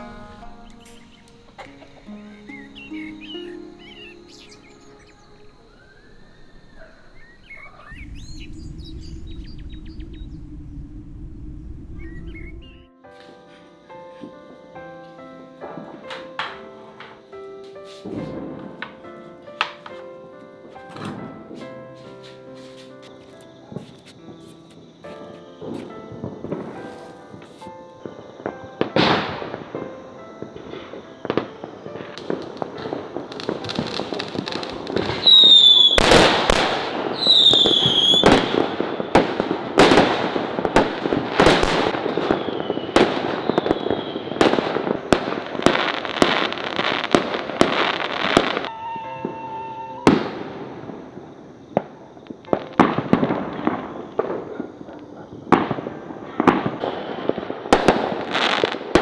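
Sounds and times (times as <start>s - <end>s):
high firework whistles: 0.0s - 13.4s, 20.9s - 59.0s
fireworks bangs and crackles: 0.0s - 59.0s.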